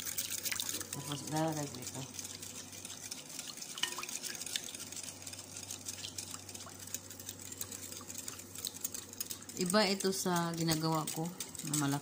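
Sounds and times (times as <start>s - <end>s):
liquid pouring and dripping: 0.0s - 12.0s.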